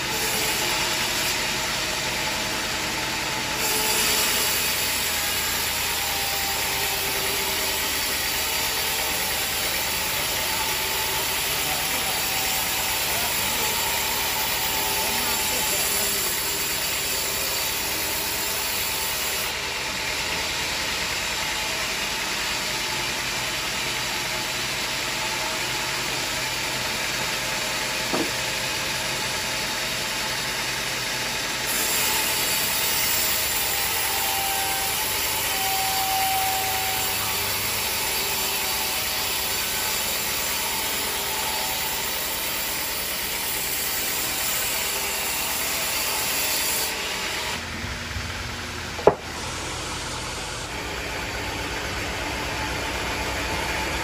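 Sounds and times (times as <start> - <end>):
band saw cutting wood: 0.0 - 48.0, 48.8 - 54.0.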